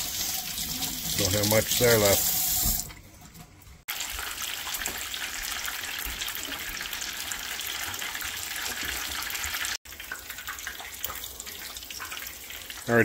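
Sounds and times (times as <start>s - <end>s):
oil sizzling and crackling: 0.0s - 2.9s, 3.8s - 13.0s.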